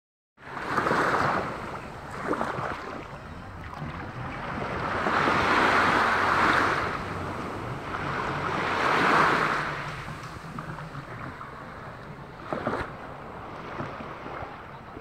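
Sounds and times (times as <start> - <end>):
small sea waves lapping: 0.4 - 15.0
wind on microphone: 0.4 - 15.0.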